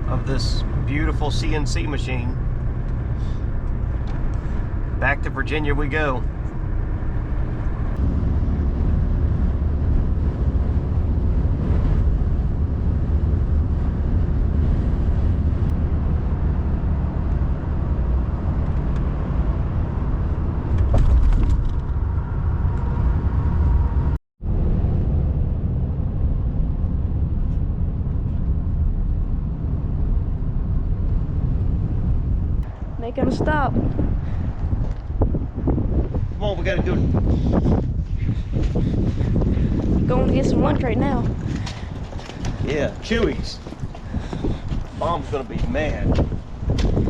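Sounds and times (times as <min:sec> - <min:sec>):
truck engine and road noise: 0:00.0 - 0:47.0.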